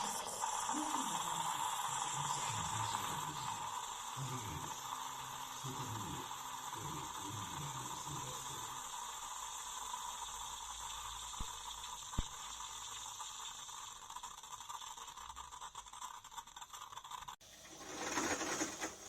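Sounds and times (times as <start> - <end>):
coffee machine hissing: 0.0 - 19.0.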